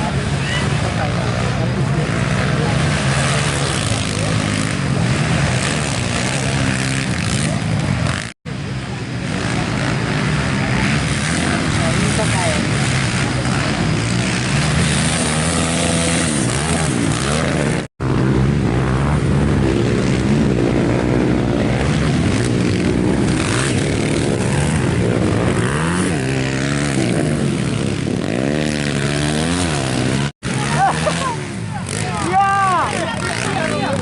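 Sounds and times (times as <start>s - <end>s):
racing motorcycle engines: 0.0s - 34.0s.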